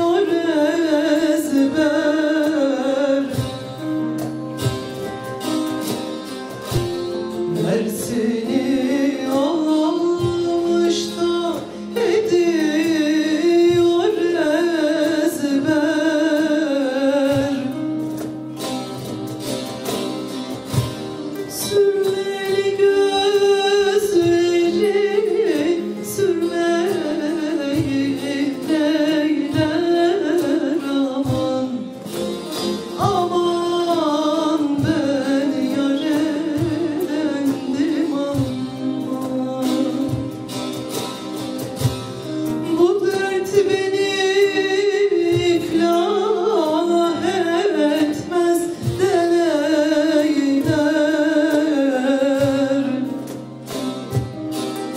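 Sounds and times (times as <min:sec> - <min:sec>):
folk singing: 0:00.0 - 0:04.0, 0:06.6 - 0:17.9, 0:21.4 - 0:40.9, 0:42.5 - 0:54.4
plucked lute: 0:00.0 - 0:54.9.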